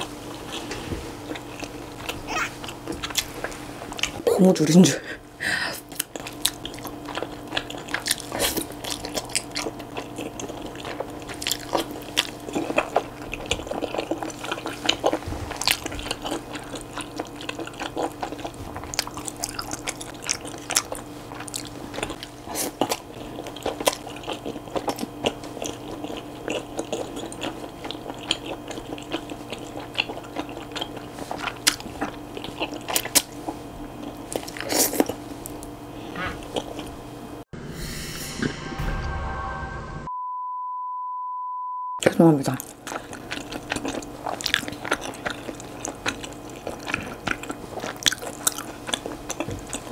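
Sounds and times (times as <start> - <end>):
wet chewing and slurping noodles: 0.0 - 4.2, 5.8 - 37.1, 42.6 - 49.9.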